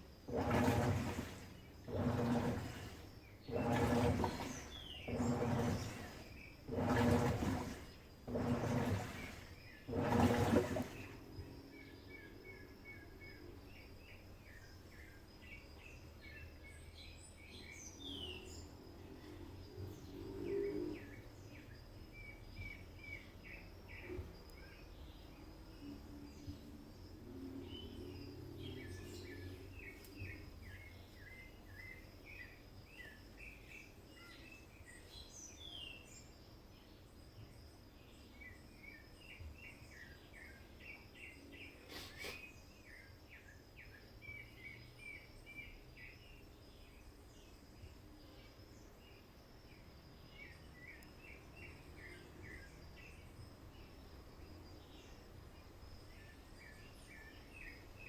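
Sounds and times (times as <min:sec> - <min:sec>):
faint birdsong chirps: 0:00.0 - 0:58.0.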